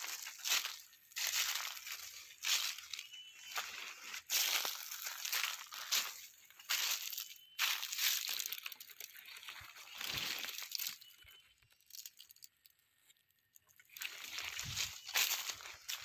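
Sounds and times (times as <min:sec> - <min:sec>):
footsteps crunching dry leaves: 0:00.0 - 0:11.2, 0:13.8 - 0:16.0.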